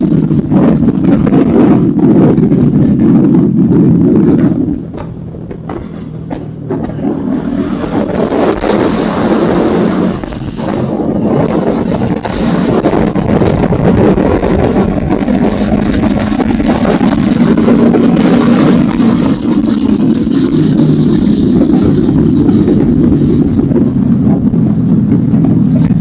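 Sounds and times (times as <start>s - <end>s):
motorcycle engine running: 0.0s - 26.0s
wind on microphone: 0.0s - 26.0s.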